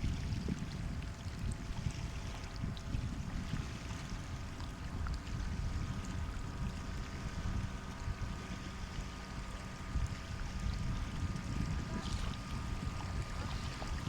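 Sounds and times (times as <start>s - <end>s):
low rumble of surf: 0.0s - 14.0s.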